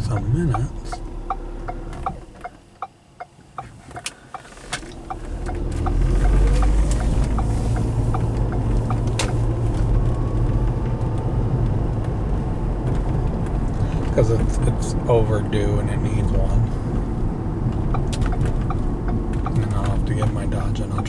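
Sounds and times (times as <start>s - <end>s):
car road and drivetrain rumble: 0.0s - 21.0s
turn signal ticking: 0.0s - 21.0s.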